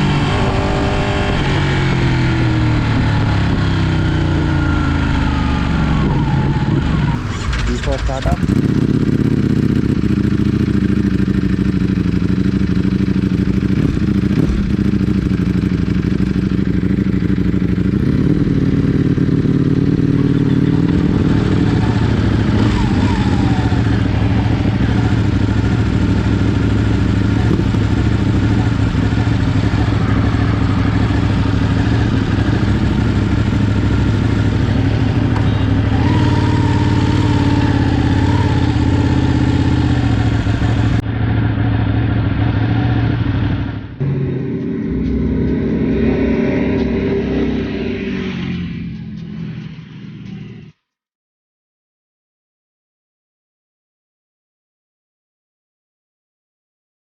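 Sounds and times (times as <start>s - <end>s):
motorcycle engine running: 0.0s - 50.8s.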